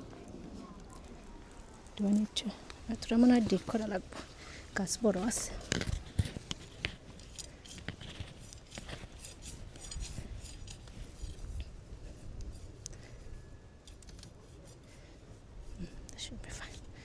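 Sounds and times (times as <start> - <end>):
hand trowel scraping in soil: 2.0 - 15.7.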